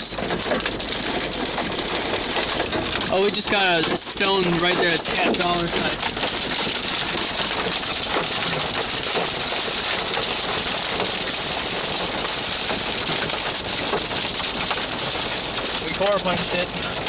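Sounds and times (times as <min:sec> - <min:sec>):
hailstones ticking: 0:00.0 - 0:17.0
heavy rain on vehicle roof: 0:00.0 - 0:17.0.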